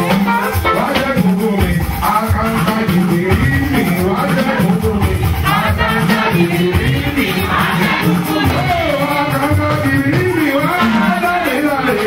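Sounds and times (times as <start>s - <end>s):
drums and percussion: 0.0s - 12.0s
voices singing: 0.0s - 12.0s.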